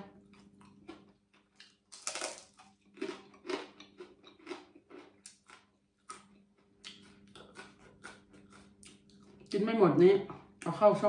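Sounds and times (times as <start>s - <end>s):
faint steady hum: 0.0s - 11.0s
crunchy chewing: 0.2s - 9.5s.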